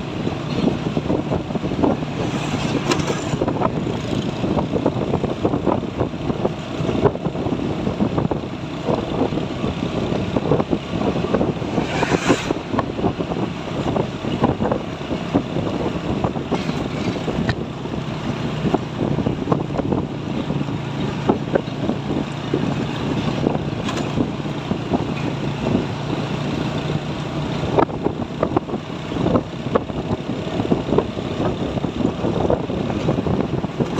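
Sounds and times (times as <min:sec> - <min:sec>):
trucks driving past: 0:00.0 - 0:28.1
low engine hum: 0:00.0 - 0:33.9.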